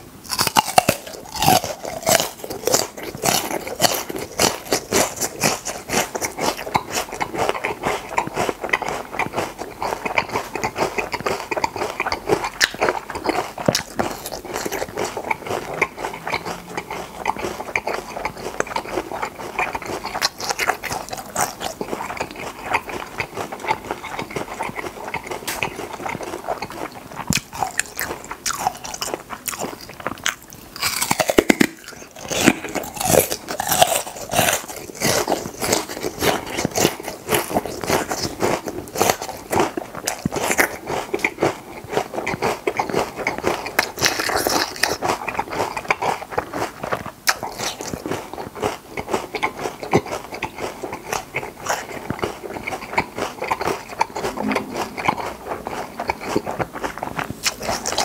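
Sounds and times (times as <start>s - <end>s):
crisp crunching of chewing: 0.2s - 58.0s.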